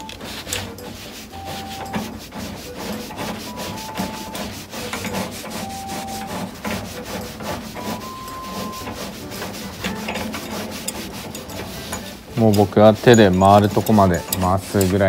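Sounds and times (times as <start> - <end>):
metal thread scraping and clicking: 0.0 - 15.0.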